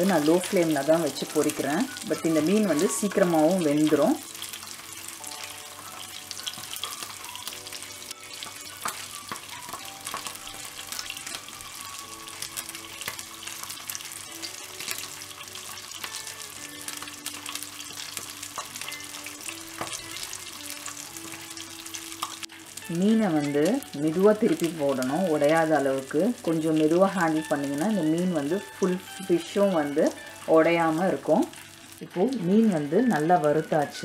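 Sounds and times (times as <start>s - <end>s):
fish sizzling in oil: 0.0s - 34.0s.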